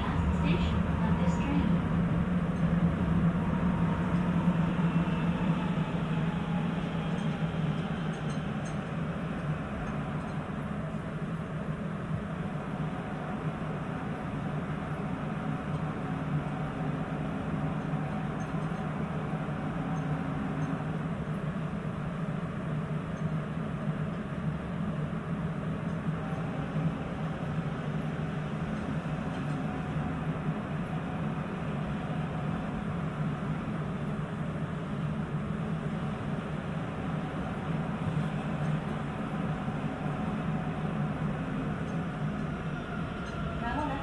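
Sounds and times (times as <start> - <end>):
subway car running rumble: 0.0 - 44.0.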